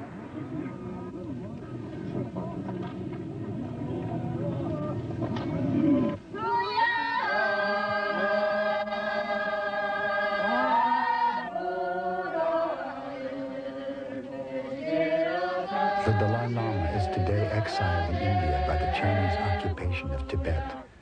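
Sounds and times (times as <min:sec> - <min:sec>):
chant-like singing: 0:04.0 - 0:21.0.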